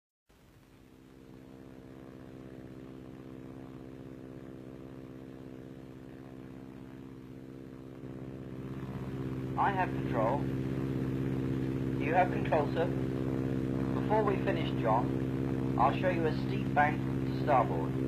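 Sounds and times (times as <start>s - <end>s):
airplane piston engine in flight: 1.0s - 18.0s.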